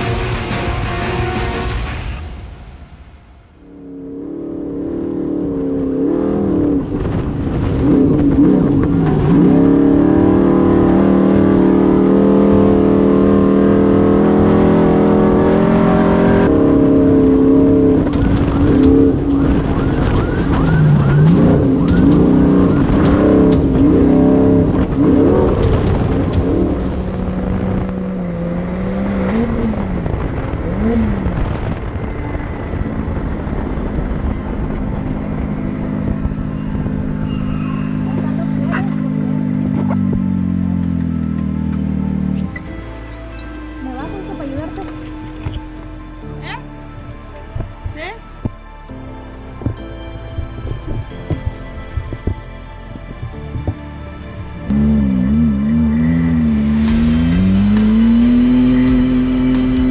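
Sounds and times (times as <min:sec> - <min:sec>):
race vehicle engine revving: 0:03.7 - 0:47.9, 0:49.6 - 0:59.9.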